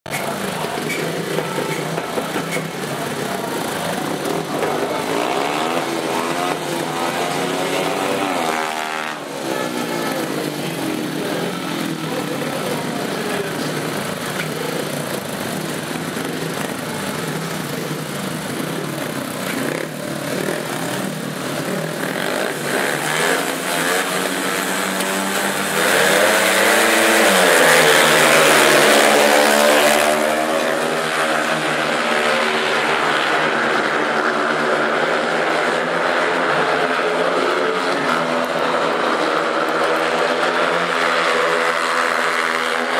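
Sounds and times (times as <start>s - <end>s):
motorcycle engines revving: 0.1s - 42.9s.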